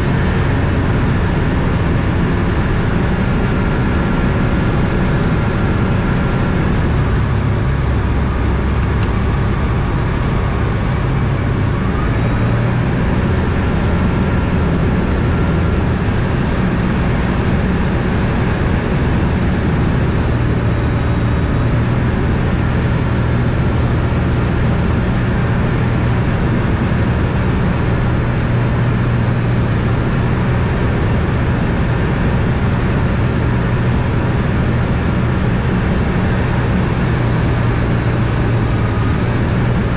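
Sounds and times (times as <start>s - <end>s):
light aircraft engine in flight: 0.0s - 39.9s.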